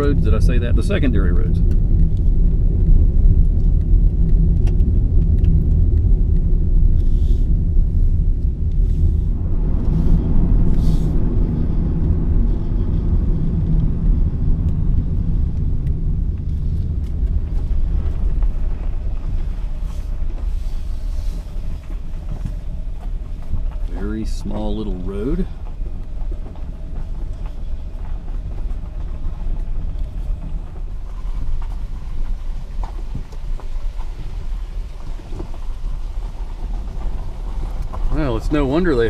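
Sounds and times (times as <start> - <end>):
tyre and road rumble: 0.0 - 39.0.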